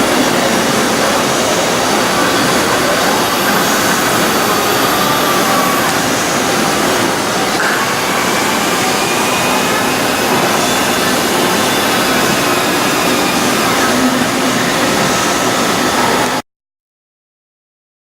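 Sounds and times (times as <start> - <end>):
milling machine whirring: 0.0 - 16.4.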